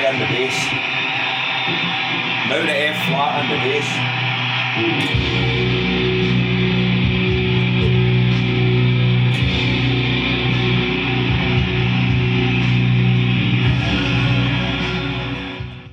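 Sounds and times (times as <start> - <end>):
backing track: 0.0 - 15.9
electric guitar chord ringing: 0.0 - 15.9.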